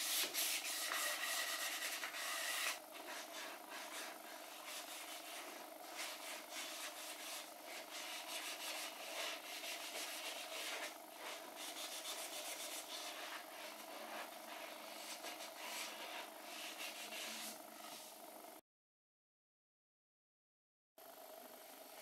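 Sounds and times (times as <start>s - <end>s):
sandpaper rubbing wood: 0.0s - 18.2s.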